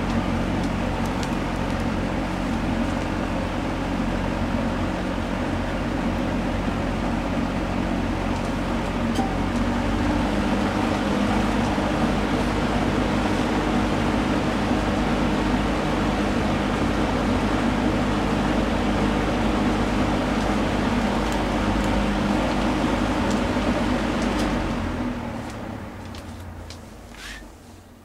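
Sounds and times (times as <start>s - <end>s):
box fan running: 0.0s - 28.0s.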